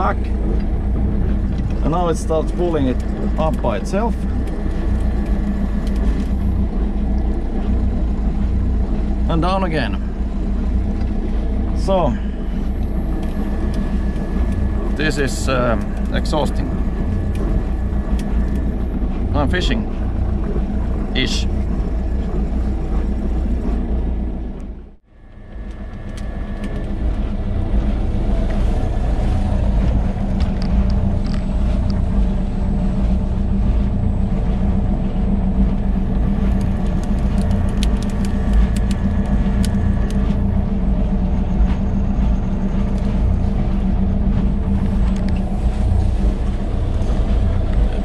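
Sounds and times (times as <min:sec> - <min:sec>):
low rumble: 0:00.0 - 0:48.0
mechanical motor hum: 0:00.0 - 0:48.0.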